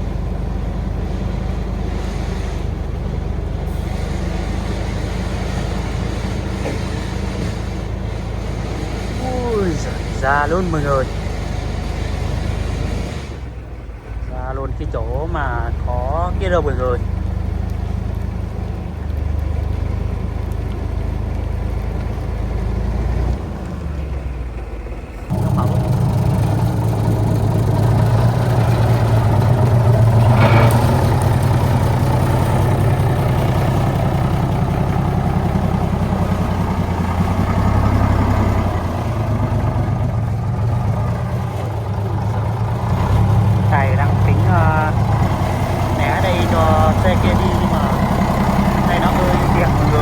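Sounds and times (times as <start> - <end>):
truck engine running under load: 0.0 - 50.0.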